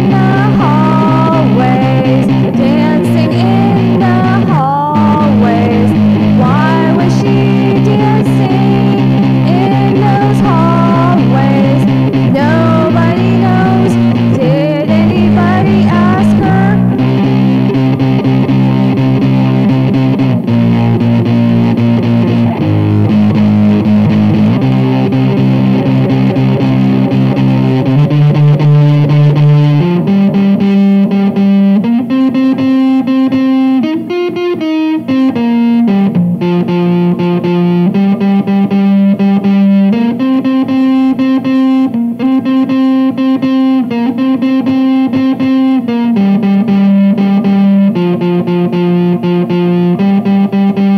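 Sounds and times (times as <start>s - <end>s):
electric guitar playing chords: 0.0s - 50.9s.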